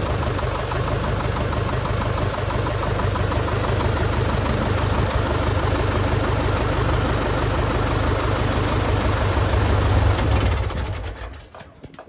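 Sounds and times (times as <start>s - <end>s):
propeller engine idling: 0.0s - 12.0s.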